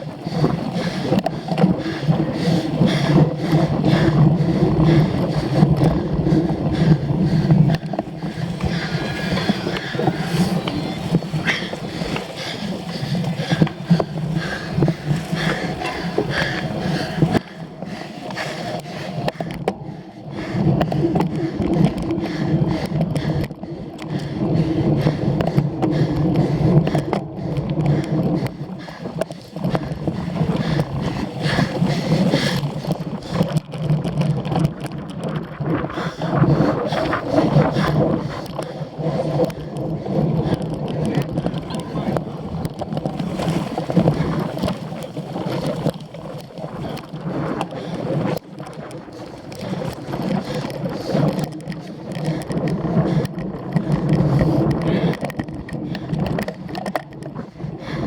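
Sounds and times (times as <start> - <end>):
bike tyre rumble: 0.0 - 58.0
wind buffeting microphone: 0.0 - 58.0.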